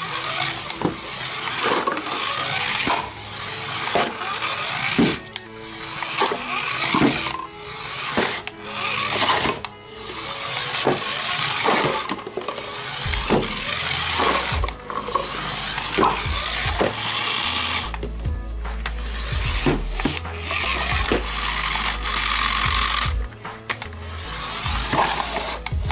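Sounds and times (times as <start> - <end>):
toy car motor whirring: 0.0 - 25.9.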